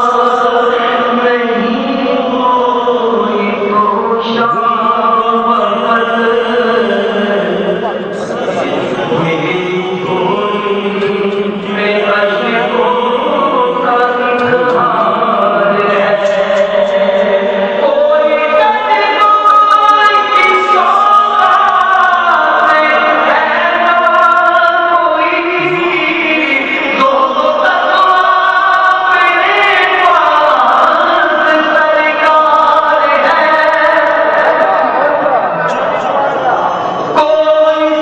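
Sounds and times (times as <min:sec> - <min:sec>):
devotional song chanted: 0:00.0 - 0:38.0.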